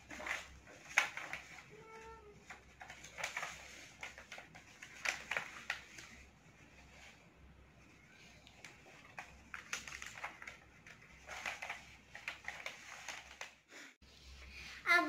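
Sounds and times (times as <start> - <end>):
paper folding and creasing: 0.0 - 13.7.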